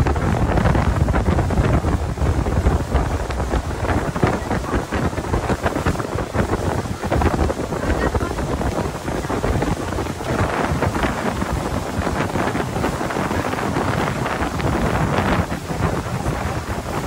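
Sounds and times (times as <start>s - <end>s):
boat running on water: 0.0s - 17.0s
wind buffeting microphone: 0.0s - 17.0s.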